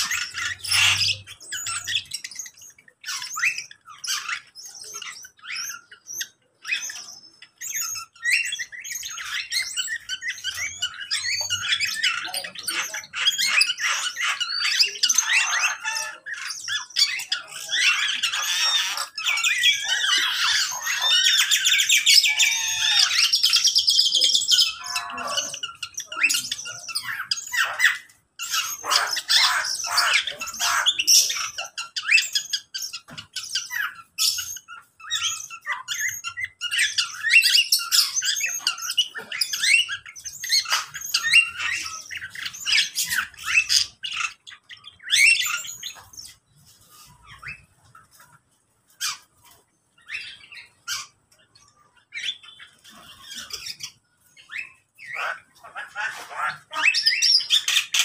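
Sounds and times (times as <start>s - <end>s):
birds chirping and squawking: 0.0s - 58.0s.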